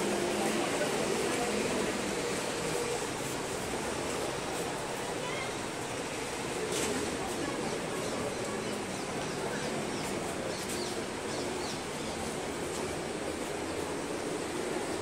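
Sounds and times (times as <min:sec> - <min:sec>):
passers-by: 0:00.0 - 0:15.0
traffic: 0:00.0 - 0:15.0.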